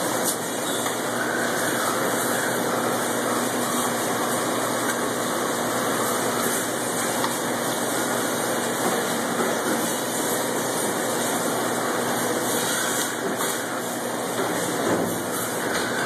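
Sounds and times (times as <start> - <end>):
steady machinery noise and hiss: 0.0 - 16.0.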